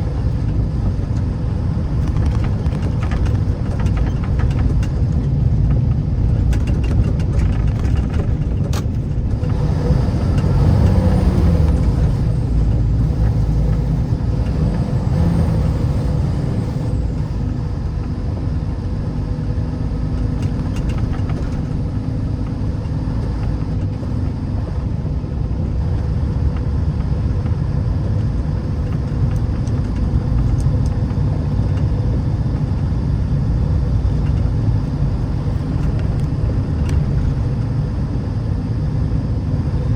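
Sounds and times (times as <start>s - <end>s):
vehicle driving on snowy road: 0.0s - 39.9s.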